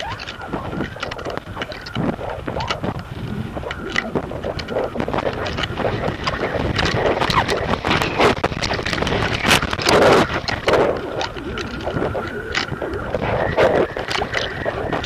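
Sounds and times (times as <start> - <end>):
rapid crackles and rattles: 0.0 - 15.0
wind buffeting microphone: 0.0 - 15.0.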